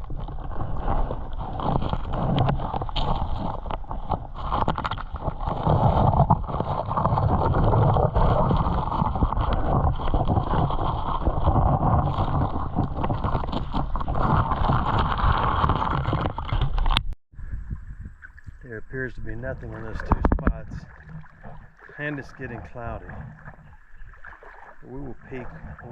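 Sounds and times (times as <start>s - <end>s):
water sloshing from wading: 0.0s - 17.2s, 18.0s - 25.9s.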